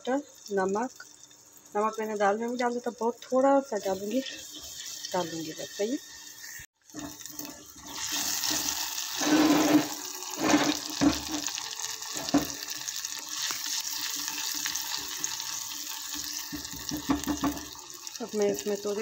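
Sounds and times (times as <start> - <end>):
paste sizzling in oil: 0.2 - 19.0.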